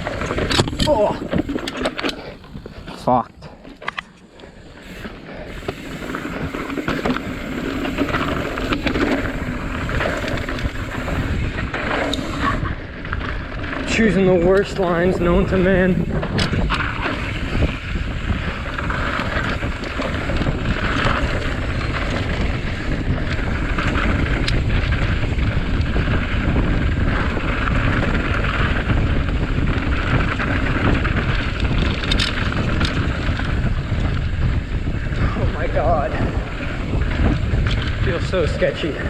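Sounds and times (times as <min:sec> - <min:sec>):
bike clicks and rattles: 0:00.0 - 0:39.0
mountain bike rumbling on rough trail: 0:00.0 - 0:39.0
wind buffeting microphone: 0:00.0 - 0:39.0.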